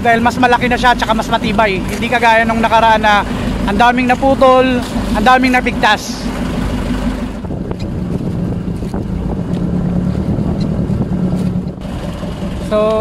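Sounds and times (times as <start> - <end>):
boat engine running: 0.0 - 13.0
water rushing past hull: 0.0 - 13.0
wind buffeting microphone: 0.0 - 13.0.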